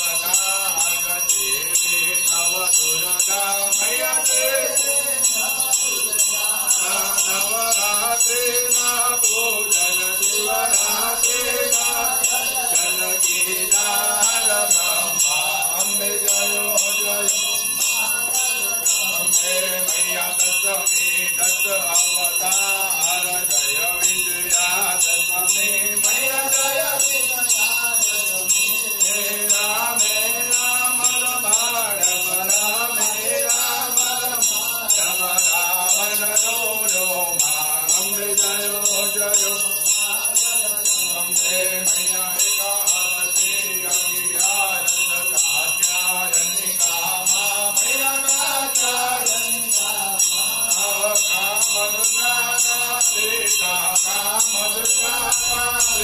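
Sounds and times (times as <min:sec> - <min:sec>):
temple bells ringing rapidly: 0:00.0 - 0:56.0
voices singing a chant: 0:00.0 - 0:56.0.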